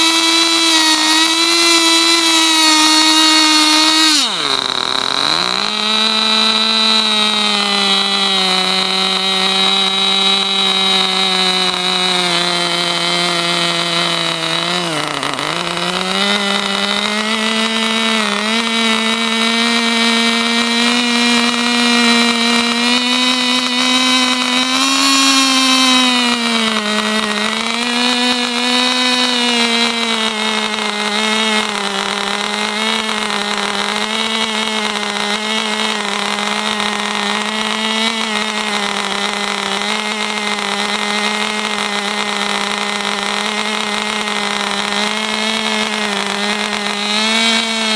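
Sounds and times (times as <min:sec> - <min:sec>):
model engine revving high-pitched buzz: 0:00.0 - 0:47.9.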